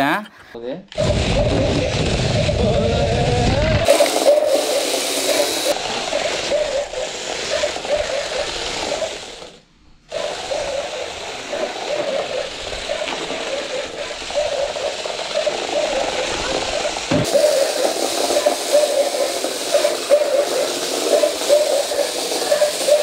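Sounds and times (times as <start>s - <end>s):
toy electric motors whining: 0.9s - 23.0s.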